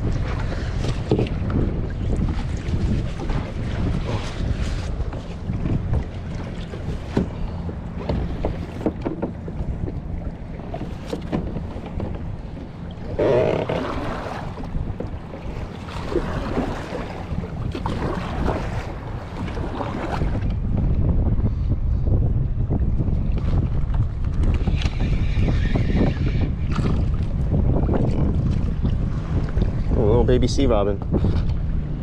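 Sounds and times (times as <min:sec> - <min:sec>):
water slapping against kayak: 0:00.0 - 0:21.4, 0:22.1 - 0:32.0
wind rumbling on microphone: 0:00.0 - 0:32.0.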